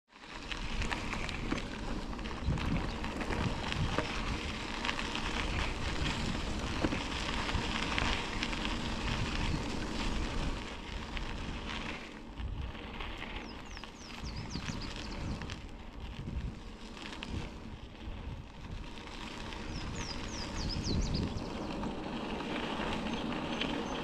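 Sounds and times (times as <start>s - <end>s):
tyres crunching on gravel: 0.1s - 24.0s.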